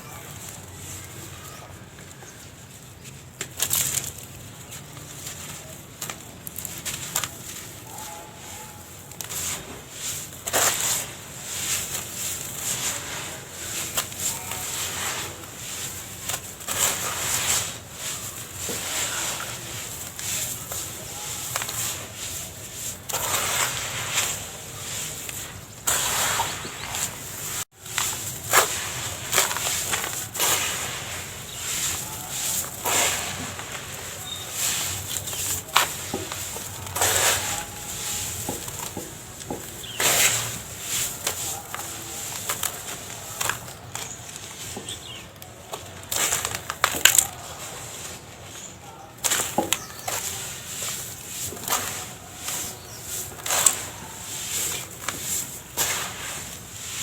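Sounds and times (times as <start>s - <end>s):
cement crumbling and crunching: 0.0s - 57.0s.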